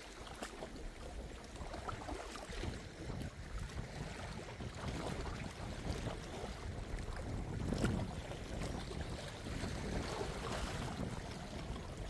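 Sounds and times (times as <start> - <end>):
sea waves washing: 0.0 - 12.0
wind rumbling on microphone: 0.0 - 12.0.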